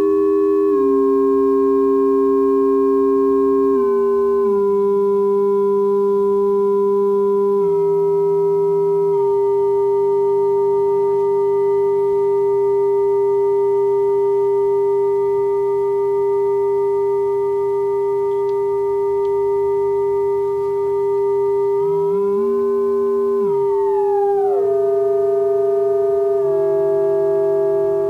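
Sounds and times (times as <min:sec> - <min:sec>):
electronic sine tone with effect: 0:00.0 - 0:28.0.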